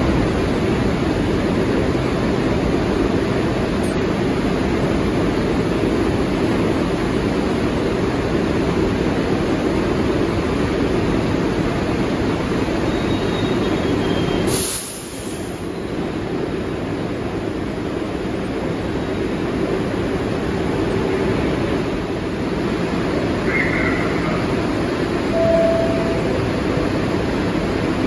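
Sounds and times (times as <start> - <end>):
subway trains rumbling: 0.0 - 28.0.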